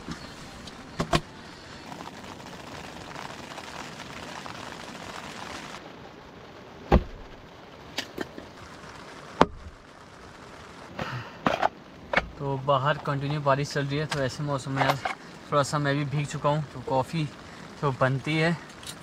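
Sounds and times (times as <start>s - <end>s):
rain on a tent: 0.0s - 19.0s.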